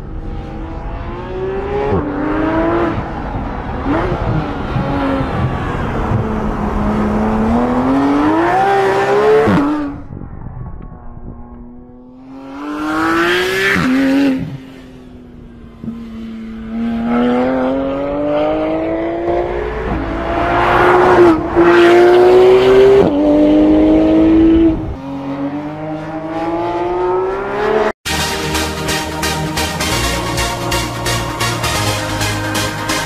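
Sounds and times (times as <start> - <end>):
car engine accelerating hard: 0.0 - 10.1, 11.1 - 28.0.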